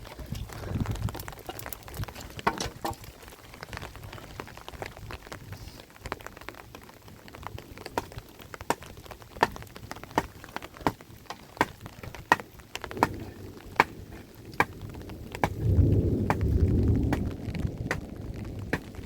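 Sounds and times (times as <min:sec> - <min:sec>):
light rain hiss: 0:00.0 - 0:19.0
raindrops ticking: 0:00.0 - 0:19.0.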